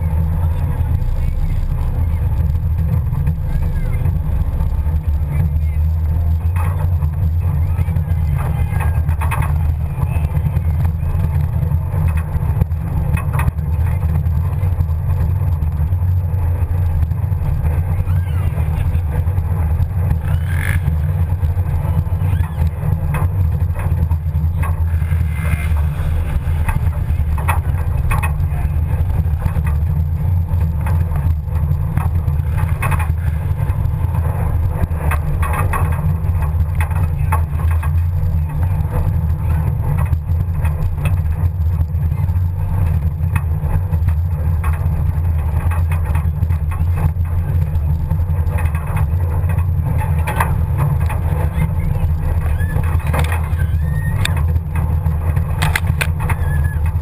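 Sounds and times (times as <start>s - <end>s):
truck engine rumble: 0.0s - 57.0s.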